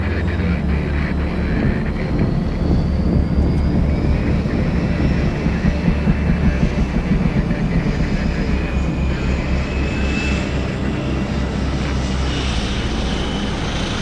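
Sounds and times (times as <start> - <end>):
helicopter rotor chop: 0.0 - 14.0
high turbine whine: 0.0 - 14.0.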